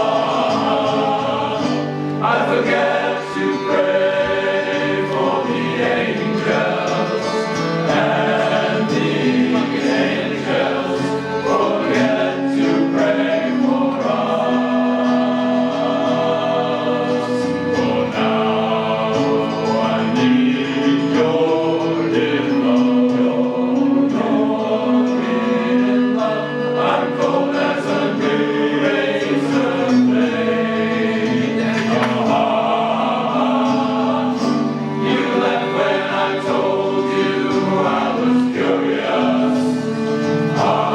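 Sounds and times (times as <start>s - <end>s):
choir singing: 0.0s - 40.9s.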